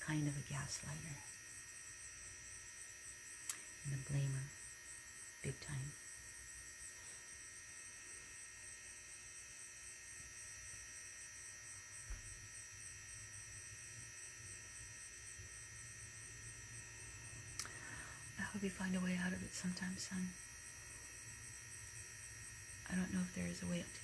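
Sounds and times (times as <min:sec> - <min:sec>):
faint electrical hum and buzz: 0:00.0 - 0:24.0.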